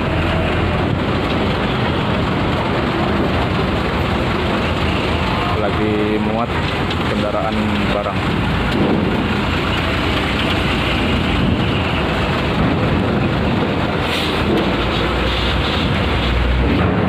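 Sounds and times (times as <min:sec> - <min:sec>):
coaches idling: 0:00.0 - 0:15.3
diesel engines rumbling: 0:00.0 - 0:17.0
truck passing: 0:00.0 - 0:17.0.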